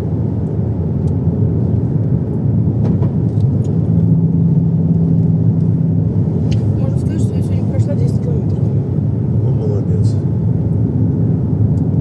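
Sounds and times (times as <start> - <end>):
low engine hum: 0.0 - 12.0
road rumble in car cabin: 0.0 - 12.0.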